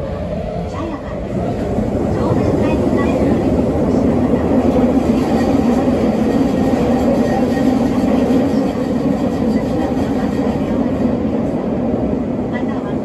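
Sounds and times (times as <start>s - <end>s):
metro train rumbling in tunnel: 0.0s - 13.0s.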